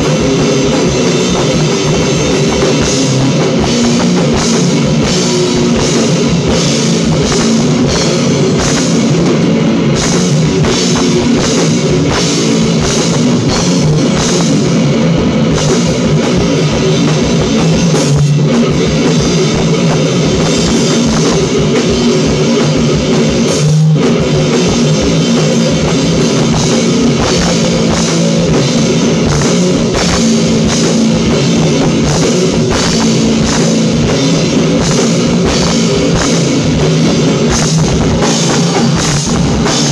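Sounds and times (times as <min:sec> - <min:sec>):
drum kit playing: 0:00.0 - 0:39.9
electric guitar: 0:00.0 - 0:39.9.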